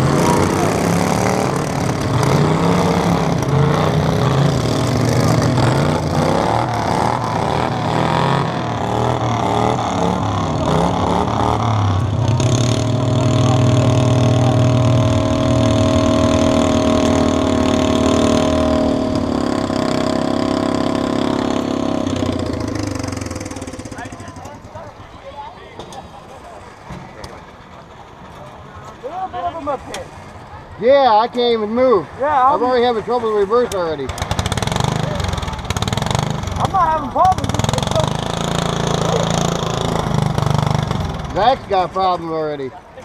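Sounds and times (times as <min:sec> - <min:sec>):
lawn mower engines revving: 0:00.0 - 0:43.0.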